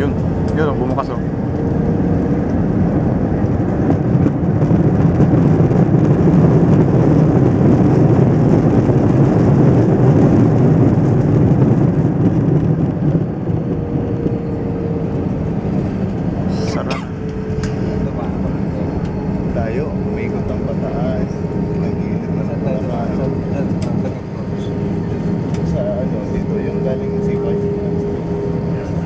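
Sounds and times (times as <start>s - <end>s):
jet engines reverse thrust roar: 0.0s - 29.0s.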